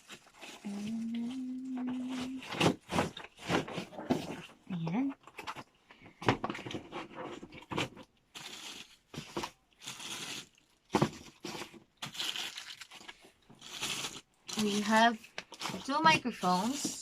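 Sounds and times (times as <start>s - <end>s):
packaging crinkling and tearing: 0.0s - 4.5s, 6.5s - 17.0s.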